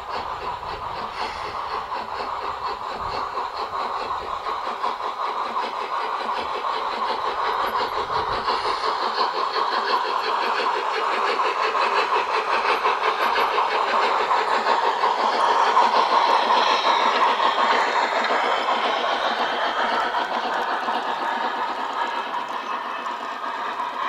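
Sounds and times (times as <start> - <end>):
model steam locomotives running: 0.0 - 24.0.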